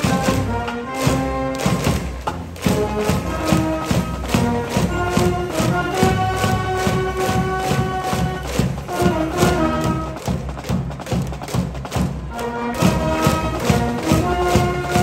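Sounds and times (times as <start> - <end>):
brass band playing: 0.0 - 15.0
steady drum beat: 0.0 - 15.0.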